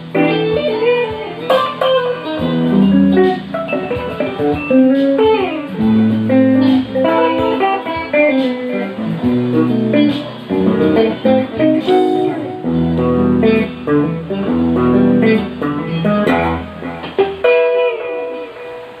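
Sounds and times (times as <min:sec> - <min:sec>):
guitar playing soul piece: 0:00.0 - 0:19.0.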